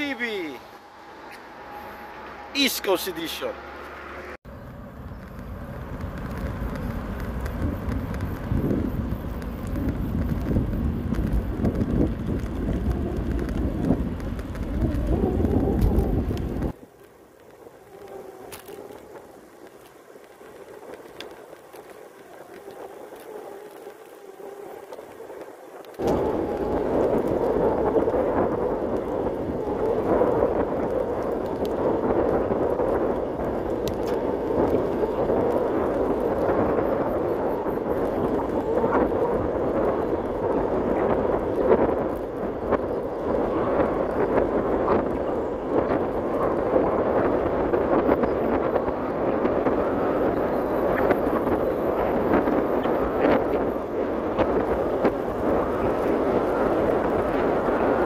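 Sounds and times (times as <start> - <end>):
wind buffeting microphone: 0.0 - 3.5, 4.4 - 58.0.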